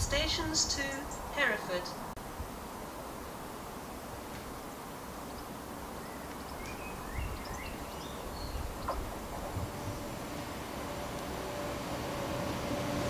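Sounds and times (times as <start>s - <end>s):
distant train rumble: 0.0s - 13.0s
outdoor background noise: 0.0s - 13.0s.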